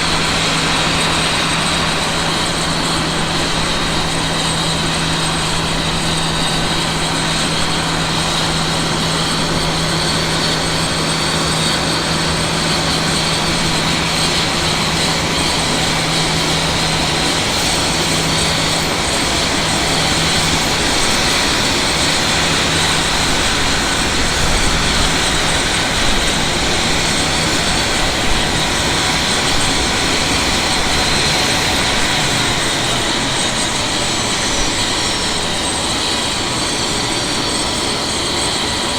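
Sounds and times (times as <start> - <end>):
jet engines roaring with high whine: 0.0 - 38.9.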